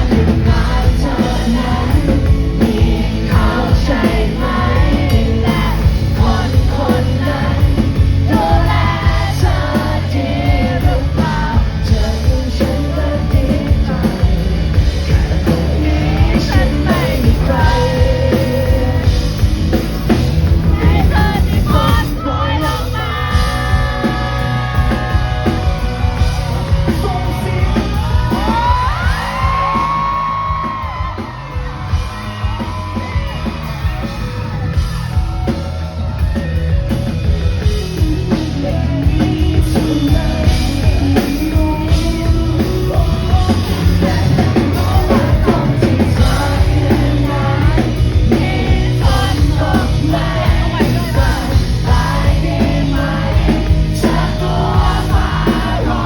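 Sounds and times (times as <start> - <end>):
person singing: 0.0 - 19.9, 20.6 - 35.6, 37.8 - 56.0
live pop-rock band playing: 0.0 - 56.0.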